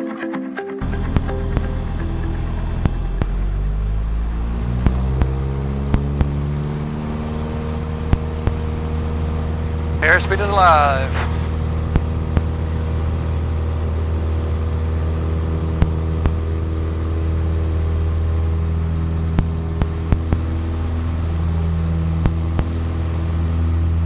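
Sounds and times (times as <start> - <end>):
aircraft engine and propeller drone: 0.8 - 24.0.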